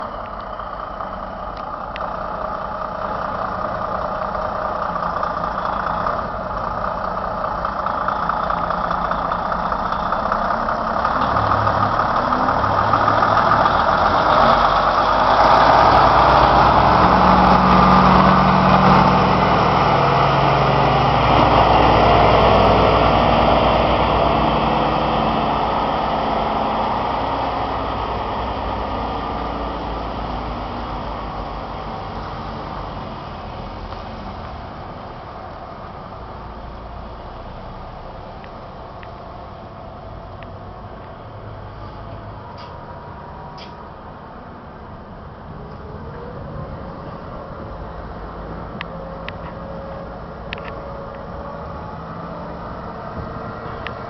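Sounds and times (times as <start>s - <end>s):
heavy vehicle engine running: 0.0s - 54.0s.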